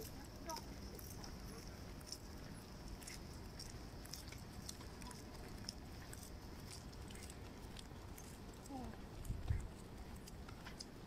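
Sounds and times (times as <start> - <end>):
footsteps on paved path: 0.0 - 11.0.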